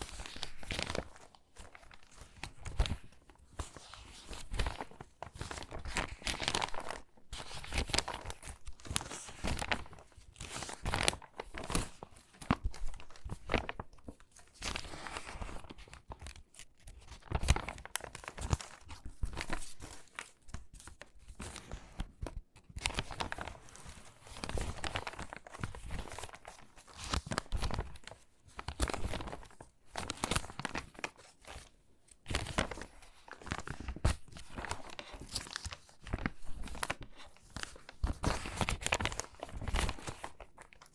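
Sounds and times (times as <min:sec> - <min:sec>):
stiff paper pages rustling: 0:00.0 - 0:40.9.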